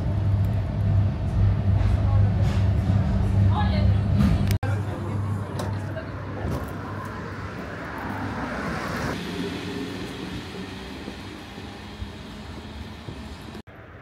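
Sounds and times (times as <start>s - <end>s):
vehicle running noise: 0.0s - 14.0s.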